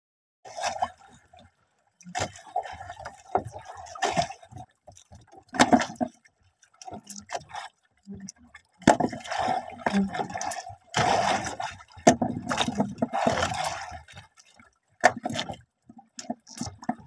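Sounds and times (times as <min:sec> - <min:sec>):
water splashing against boat: 0:00.5 - 0:17.0.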